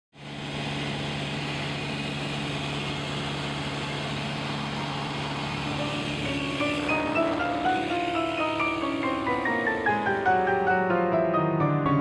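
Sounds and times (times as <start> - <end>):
aircraft engine hum in cabin: 0.2 - 12.0.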